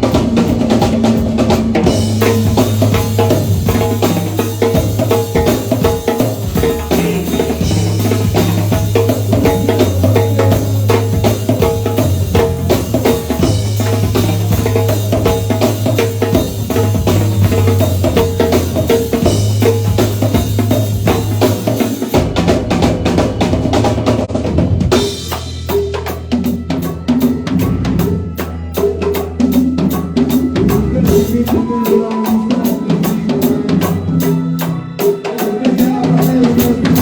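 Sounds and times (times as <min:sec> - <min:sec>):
drum kit beat: 0:00.0 - 0:37.0
live band music: 0:00.0 - 0:37.0.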